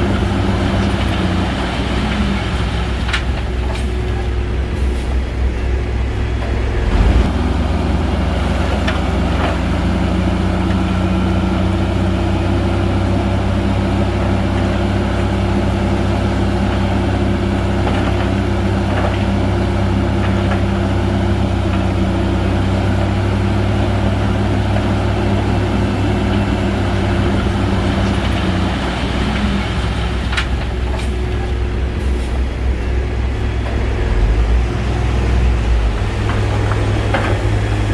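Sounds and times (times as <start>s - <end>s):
bulldozer diesel engine running: 0.0s - 37.9s.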